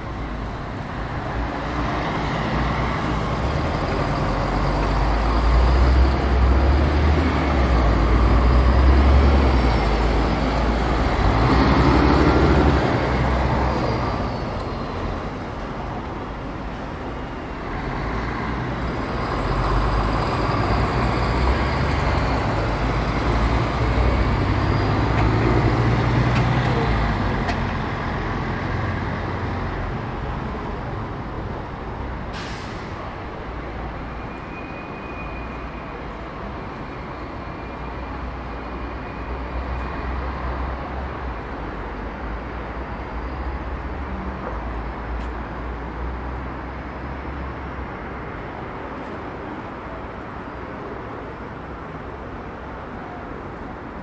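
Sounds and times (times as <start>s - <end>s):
heavy vehicles passing: 0.0s - 54.0s.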